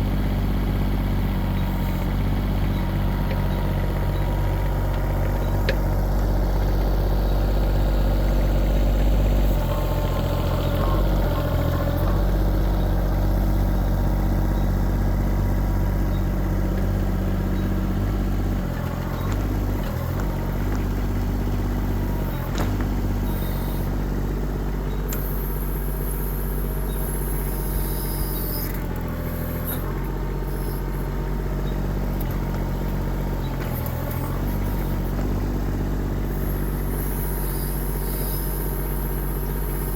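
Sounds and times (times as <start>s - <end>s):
diesel excavator engine: 0.0s - 39.9s.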